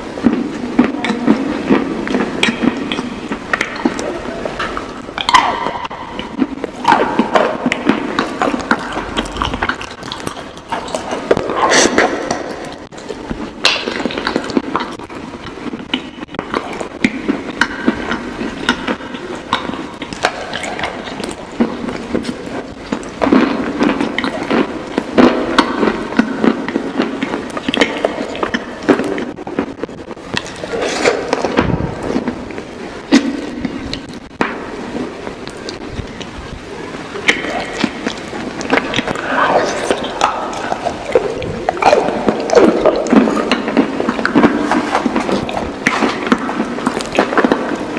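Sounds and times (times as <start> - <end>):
crunching and chewing: 0.2 - 32.4, 37.2 - 47.9.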